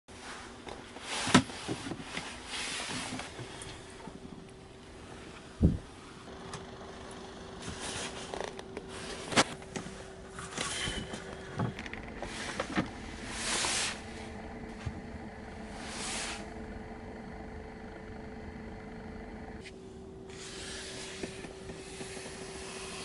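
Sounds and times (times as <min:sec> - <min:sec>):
faint steady hum: 0:00.2 - 0:23.0.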